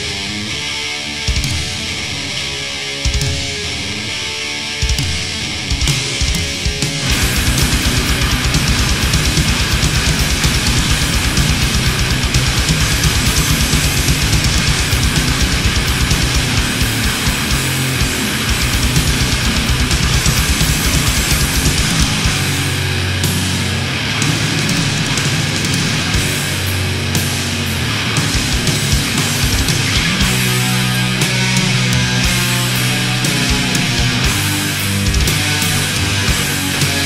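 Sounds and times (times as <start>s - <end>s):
distorted metal guitars: 0.0s - 37.0s
fast bass drumming: 5.8s - 37.0s.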